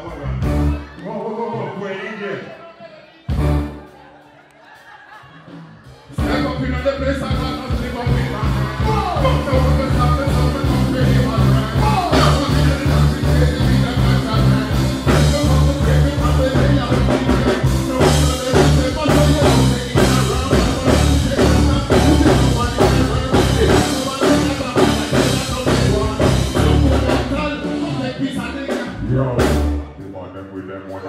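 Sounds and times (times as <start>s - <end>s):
live dancehall music: 0.0s - 31.0s
performers' voices through microphones: 0.0s - 31.0s.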